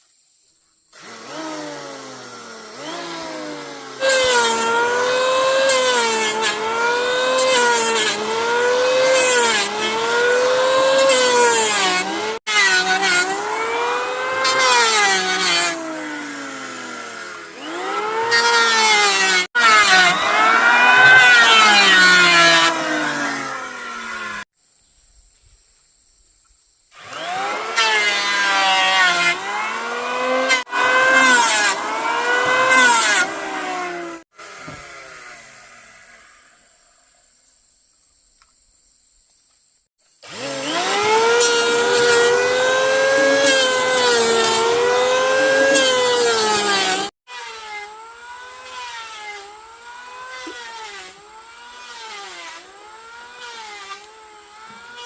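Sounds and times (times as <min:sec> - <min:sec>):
power saw cutting wood: 0:01.0 - 0:24.5, 0:27.0 - 0:36.8, 0:40.2 - 0:55.0.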